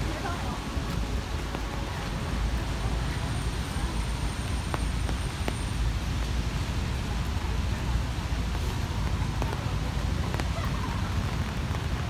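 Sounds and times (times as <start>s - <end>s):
heavy rain hissing: 0.0s - 12.0s
road traffic rumble: 0.0s - 12.0s.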